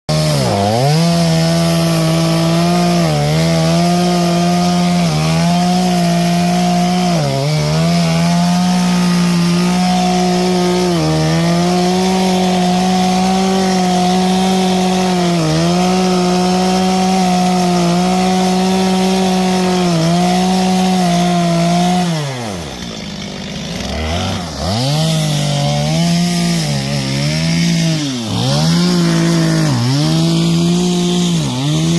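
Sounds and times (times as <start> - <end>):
chainsaw cutting wood: 0.1 - 31.9.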